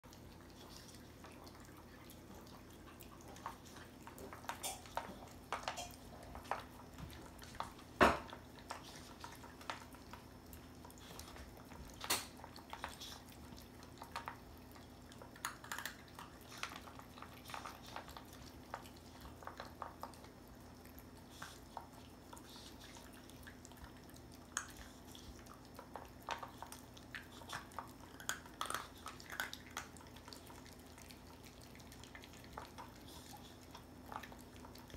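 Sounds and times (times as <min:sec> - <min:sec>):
dogs chewing: 0:00.0 - 0:34.9.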